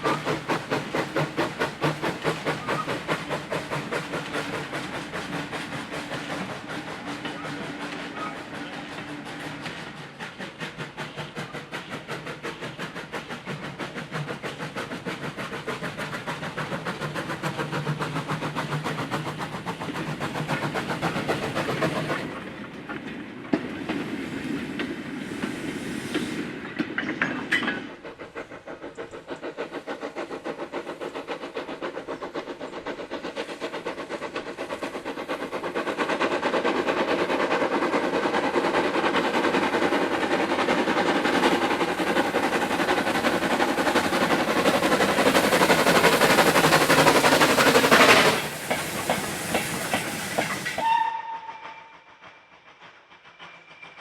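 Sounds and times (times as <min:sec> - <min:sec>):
train clattering on rails: 0:00.0 - 0:54.0.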